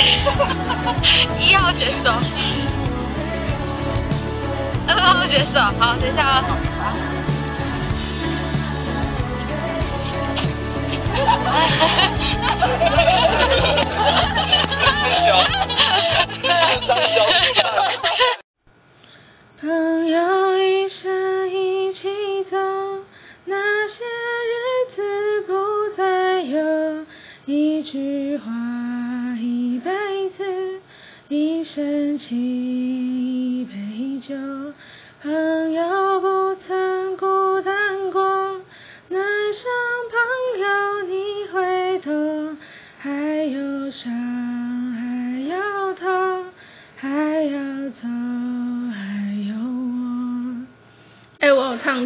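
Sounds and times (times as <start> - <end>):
woman singing a song: 0.0 - 18.4, 19.6 - 50.8.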